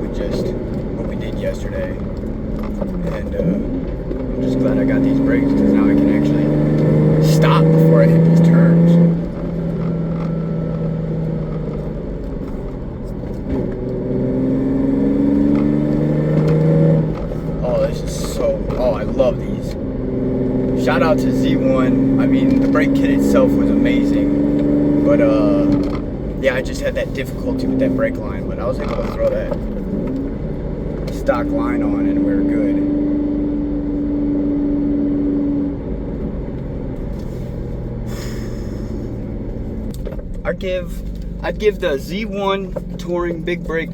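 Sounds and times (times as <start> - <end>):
car engine revving: 0.0 - 43.9
road noise: 0.0 - 43.9.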